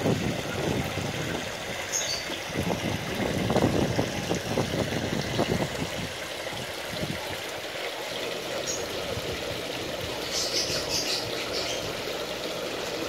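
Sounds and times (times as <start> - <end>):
trickle of running water: 0.0 - 13.0.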